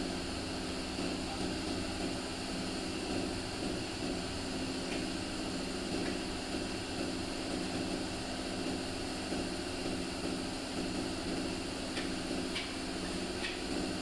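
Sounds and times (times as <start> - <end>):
machine humming with hiss: 0.0 - 14.0.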